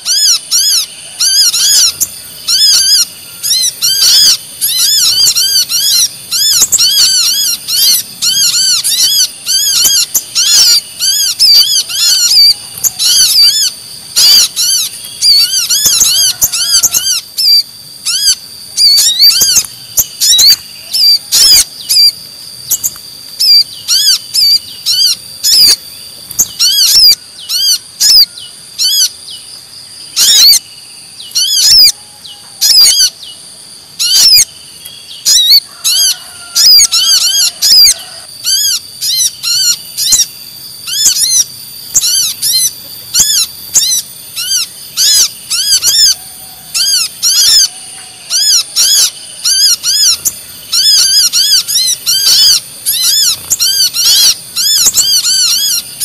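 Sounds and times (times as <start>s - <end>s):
birds chirping rapidly: 0.0s - 56.0s
faint steady high tones: 0.0s - 56.0s.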